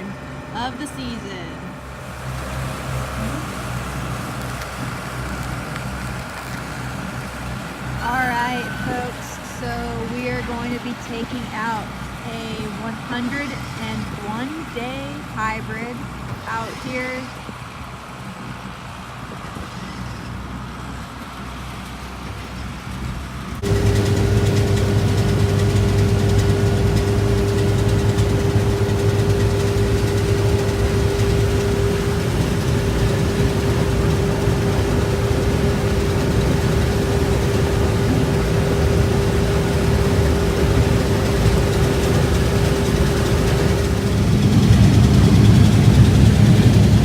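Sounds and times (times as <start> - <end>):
high-pitched whine: 0.0 - 17.4, 23.6 - 47.0
combine harvester engine hum: 0.0 - 47.0.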